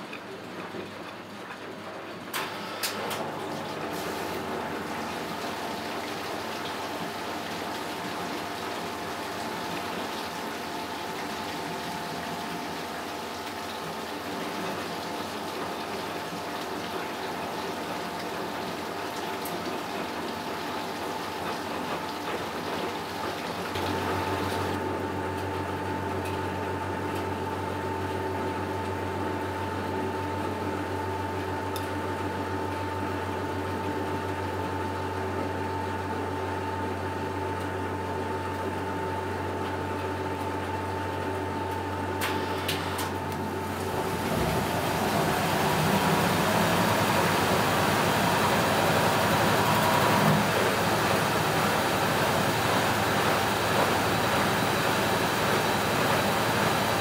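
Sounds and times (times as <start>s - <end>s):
low machine hum: 0.0s - 57.0s
water sloshing in washing machine: 0.0s - 57.0s.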